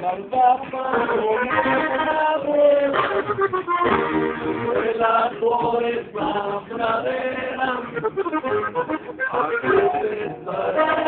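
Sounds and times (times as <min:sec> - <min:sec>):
upright bass: 0:00.0 - 0:11.0
button accordion melody: 0:00.6 - 0:11.0.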